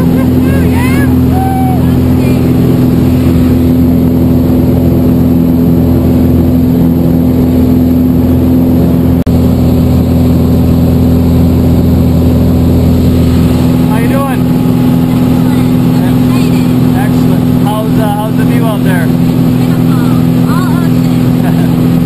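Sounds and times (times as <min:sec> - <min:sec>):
light airplane engine droning: 0:00.0 - 0:22.0.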